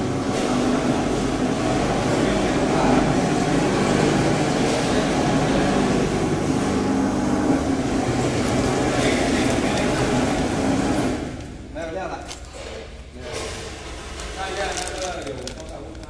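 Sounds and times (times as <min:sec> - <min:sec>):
packing machine humming and whirring: 0:00.0 - 0:16.0.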